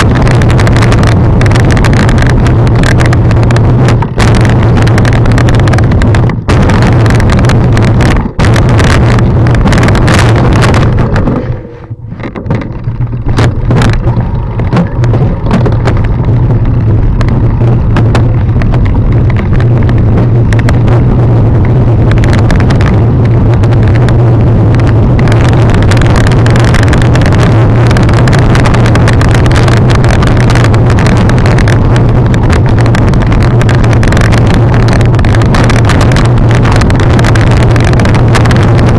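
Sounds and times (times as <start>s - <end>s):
deep steady rumble: 0.0s - 38.9s
wind buffeting camera: 0.0s - 38.9s.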